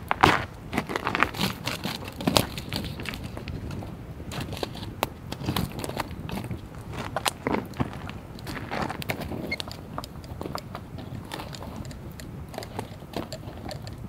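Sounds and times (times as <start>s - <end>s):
campfire crackling and popping: 0.0s - 14.0s
stick prodding burning logs: 0.0s - 14.0s.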